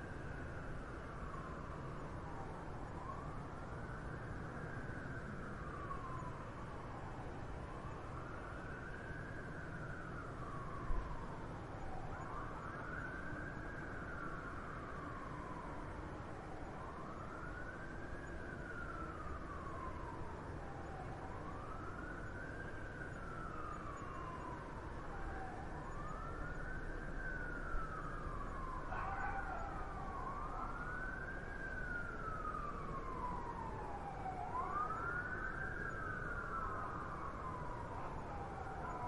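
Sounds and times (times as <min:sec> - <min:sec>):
city traffic noise: 0:00.0 - 0:39.0
emergency vehicle siren wailing: 0:00.0 - 0:39.0.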